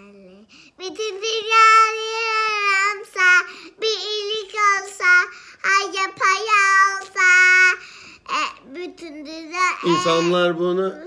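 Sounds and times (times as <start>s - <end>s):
girl singing: 0.0s - 10.6s.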